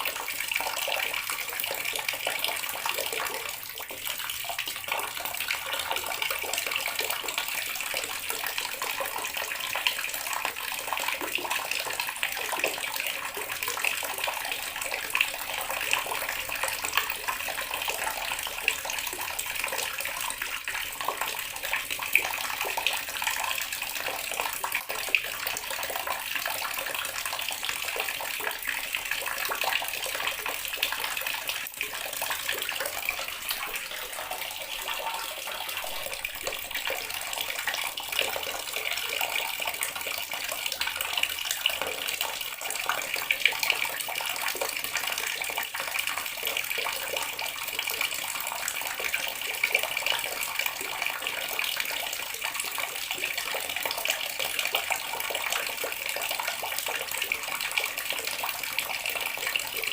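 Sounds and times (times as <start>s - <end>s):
water running from a tap: 0.0s - 59.9s.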